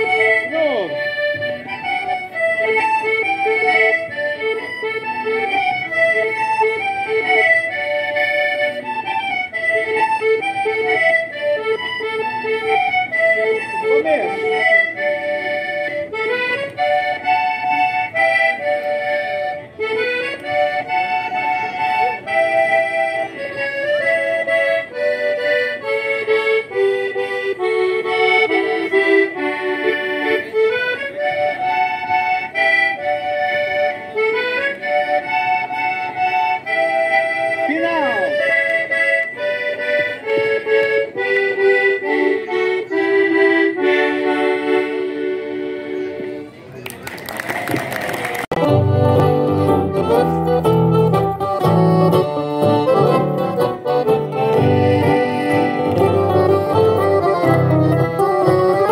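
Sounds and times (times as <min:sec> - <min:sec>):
button accordion playing lively tune: 0:00.0 - 0:46.7, 0:47.8 - 0:58.9.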